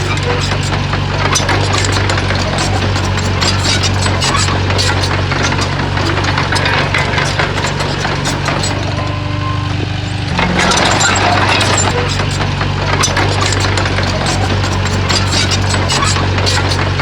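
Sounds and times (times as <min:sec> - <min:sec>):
bulldozer diesel engine running: 0:00.0 - 0:17.0
tracks clattering on rock: 0:00.0 - 0:17.0.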